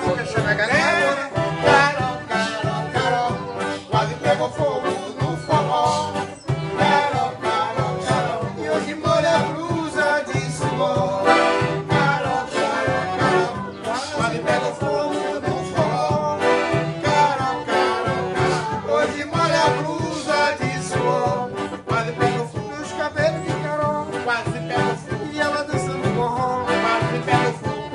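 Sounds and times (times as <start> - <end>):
accordion playing melody: 0.0 - 27.9
driving percussion beat: 0.0 - 27.9.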